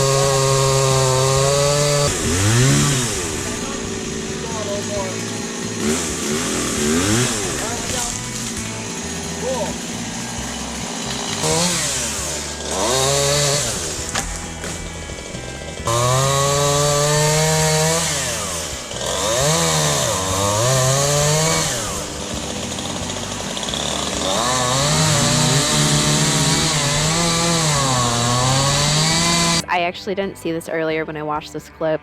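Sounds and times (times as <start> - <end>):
chainsaw cutting wood: 0.0 - 29.7.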